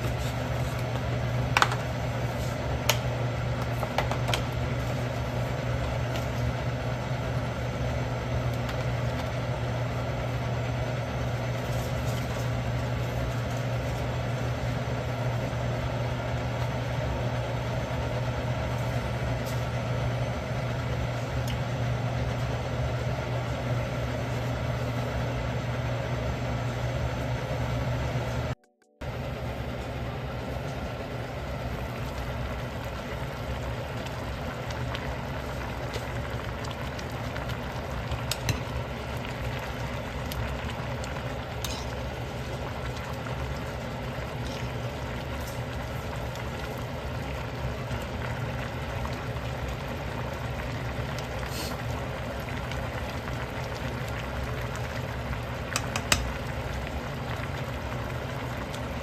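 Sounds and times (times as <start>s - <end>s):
stew bubbling at a boil: 0.0s - 27.4s, 29.1s - 59.0s
low steady hum: 0.0s - 59.0s.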